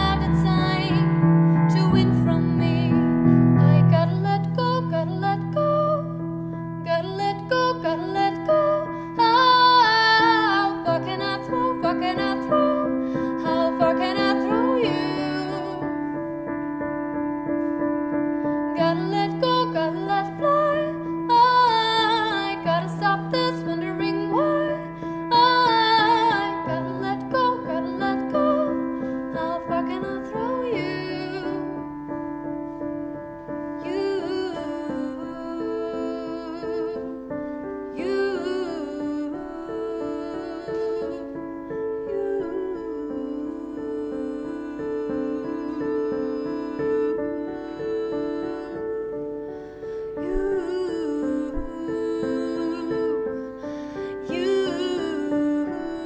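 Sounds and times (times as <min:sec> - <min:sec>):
woman singing: 0:00.0 - 0:16.8, 0:17.8 - 0:32.8, 0:33.4 - 0:56.0
digital piano chords: 0:00.0 - 0:56.0.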